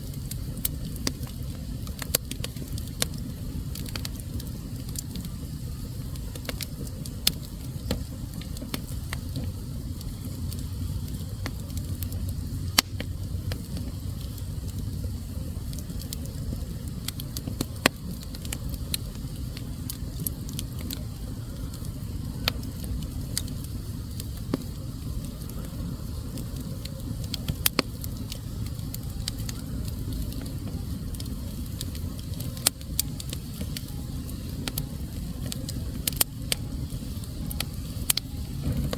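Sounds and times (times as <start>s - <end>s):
fire crackling in a fireplace: 0.0s - 38.9s.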